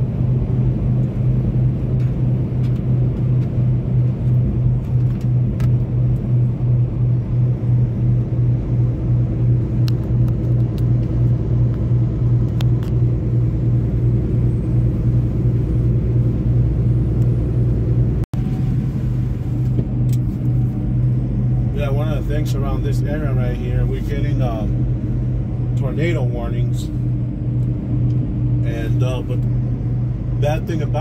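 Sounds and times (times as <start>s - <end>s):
road noise: 0.0s - 31.0s
truck engine drone: 0.0s - 31.0s.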